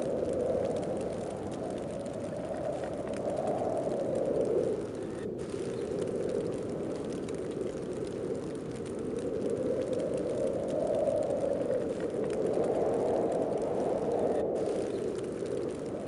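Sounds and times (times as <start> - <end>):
snowstorm wind blowing: 0.0 - 16.0.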